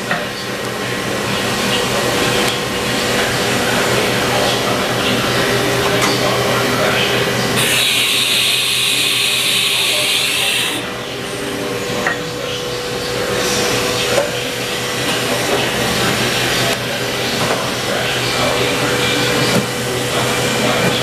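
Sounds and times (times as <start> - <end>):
machine motor and fan hum: 0.0 - 21.0.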